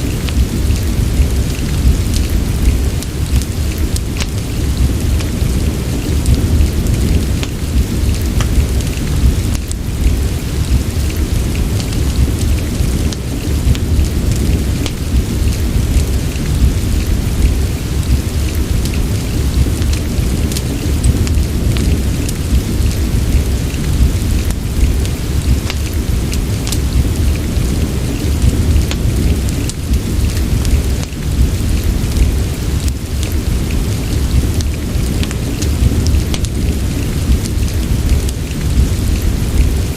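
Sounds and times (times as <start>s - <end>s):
deep low rumble: 0.0s - 39.9s
steady rain: 0.0s - 39.9s
wood fire crackling: 0.0s - 39.9s.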